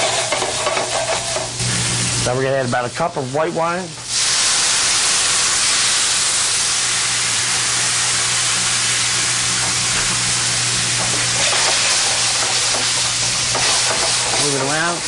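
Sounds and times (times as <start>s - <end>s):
wine sizzling in a hot pan: 0.0s - 15.0s.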